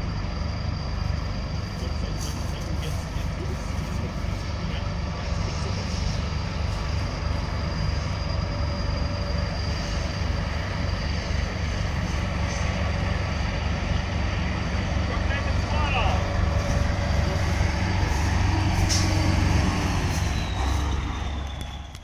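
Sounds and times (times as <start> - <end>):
tractor diesel engine drone: 0.0 - 22.0.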